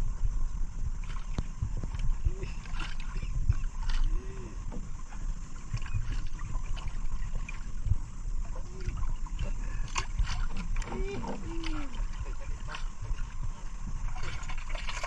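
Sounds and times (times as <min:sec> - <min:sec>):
water lapping against boat hull: 0:00.0 - 0:15.0
wind rumbling on microphone: 0:00.0 - 0:15.0.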